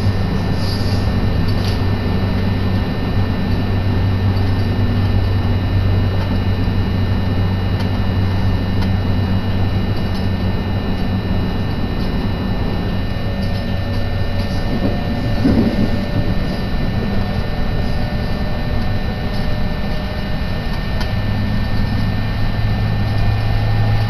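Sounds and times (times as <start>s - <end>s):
train rumble and hum: 0.0s - 24.0s.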